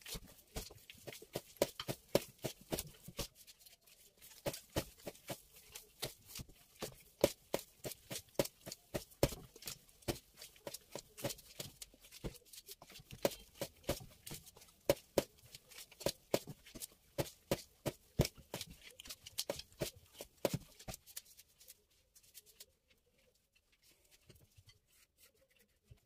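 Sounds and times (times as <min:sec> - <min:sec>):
hands slapping bread dough: 0:00.0 - 0:21.7.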